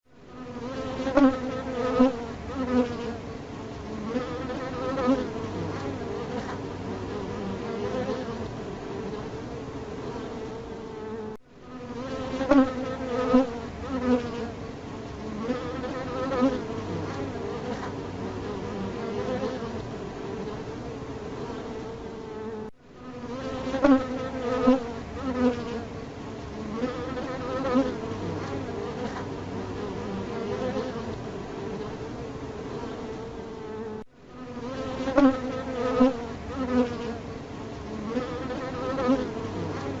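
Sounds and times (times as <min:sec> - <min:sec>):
bees buzzing: 0:00.3 - 0:40.0.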